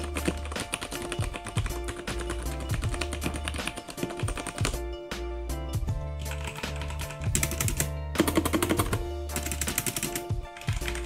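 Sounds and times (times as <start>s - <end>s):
mechanical keyboard typing: 0.0s - 4.8s, 6.2s - 11.0s
background music: 0.0s - 11.0s.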